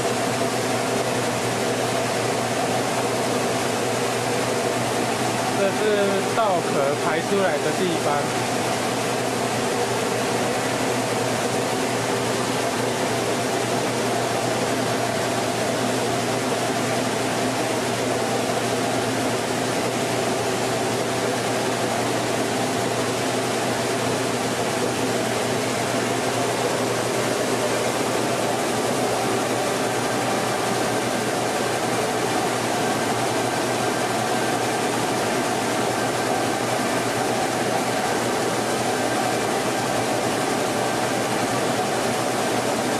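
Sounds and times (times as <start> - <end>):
rice mill humming and whirring: 0.0 - 42.9.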